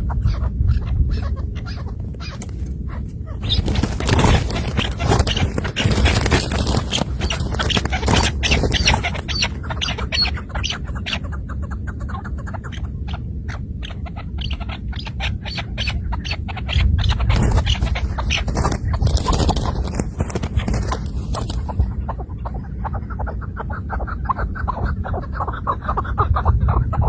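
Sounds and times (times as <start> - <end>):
partridges calling: 0.0 - 27.0
steady low rumble: 0.0 - 27.0.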